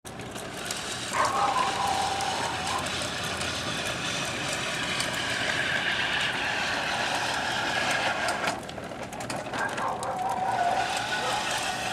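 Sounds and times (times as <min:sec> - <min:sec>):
toy truck wheels rolling on concrete: 0:00.1 - 0:11.9.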